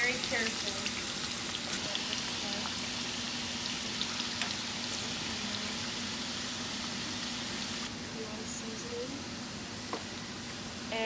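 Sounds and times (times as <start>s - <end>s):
fries sizzling in oil: 0.0s - 11.0s.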